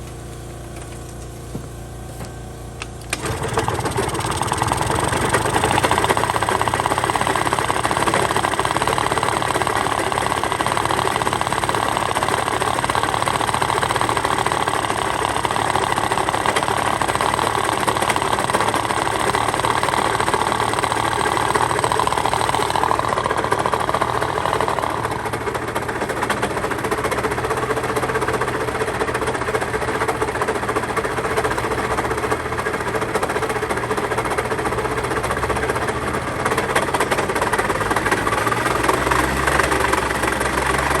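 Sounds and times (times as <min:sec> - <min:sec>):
scooter engine rattling and knocking: 0:03.1 - 0:41.0.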